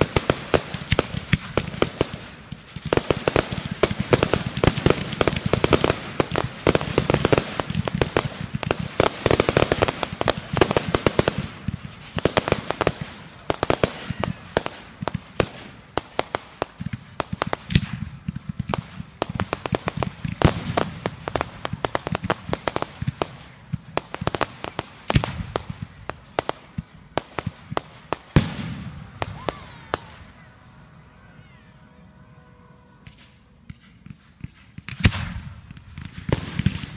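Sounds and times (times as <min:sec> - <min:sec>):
fireworks bangs and crackling: 0:00.0 - 0:30.5, 0:33.0 - 0:36.9.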